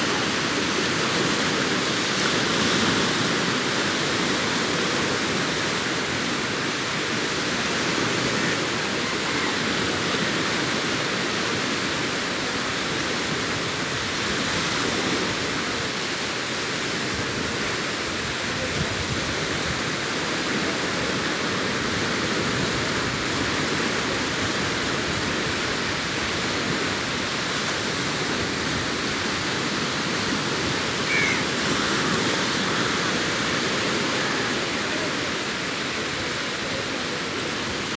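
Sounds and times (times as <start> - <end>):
waves breaking on a beach: 0.0 - 37.9.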